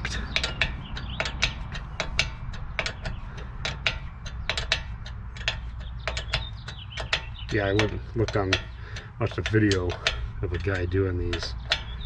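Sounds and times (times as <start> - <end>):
ratcheting wrench clicking: 0.0 - 12.0.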